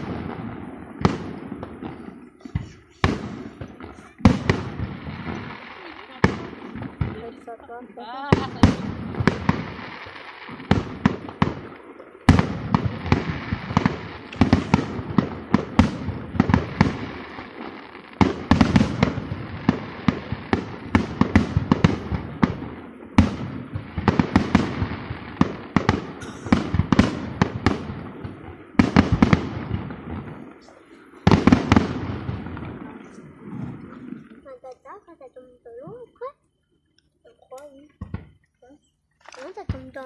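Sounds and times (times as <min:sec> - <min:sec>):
firework shells bursting: 0:00.0 - 0:07.6, 0:08.2 - 0:35.0
firework crackles: 0:00.0 - 0:40.0.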